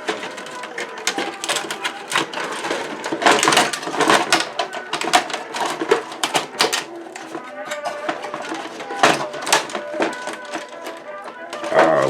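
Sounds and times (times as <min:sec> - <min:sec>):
metal computer parts clattering: 0:00.0 - 0:12.0.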